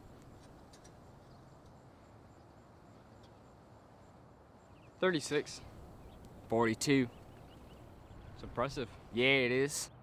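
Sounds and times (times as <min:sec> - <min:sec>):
faint outdoor hiss: 0:00.0 - 0:10.0.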